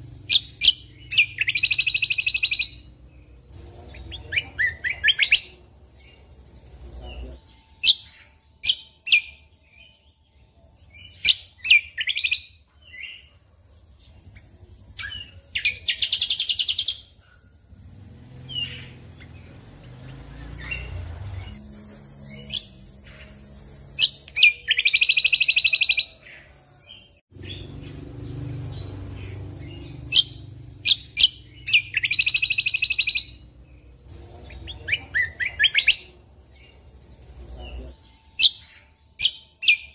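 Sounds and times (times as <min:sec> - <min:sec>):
bird singing whistled notes: 0:00.0 - 0:13.3, 0:14.0 - 0:39.9
bird buzzy trills: 0:00.0 - 0:39.9.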